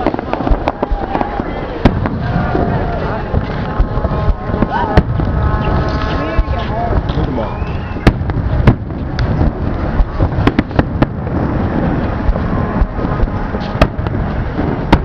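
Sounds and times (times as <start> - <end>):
fireworks bursting: 0.0 - 15.0
low rumble: 0.0 - 15.0.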